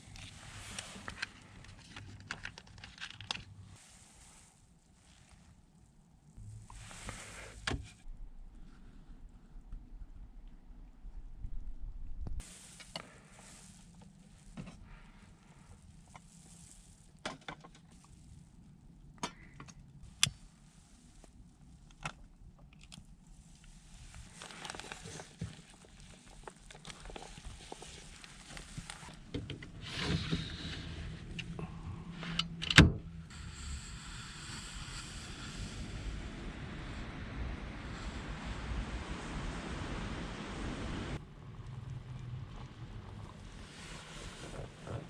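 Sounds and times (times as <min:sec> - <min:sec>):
soft hiss: 0:00.0 - 0:09.6, 0:12.2 - 0:32.5, 0:33.2 - 0:45.0.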